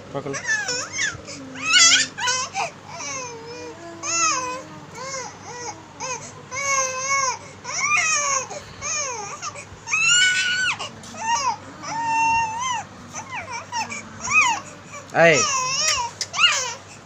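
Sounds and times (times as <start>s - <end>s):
baby crying: 0.3s - 16.9s.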